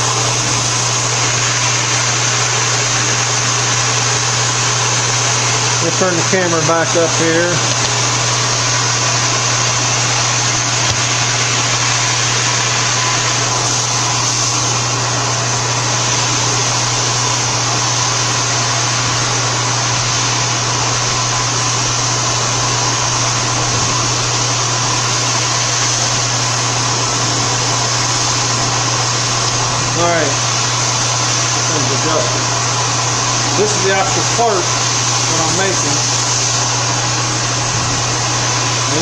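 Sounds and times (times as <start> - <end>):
milling machine humming: 0.0 - 39.0.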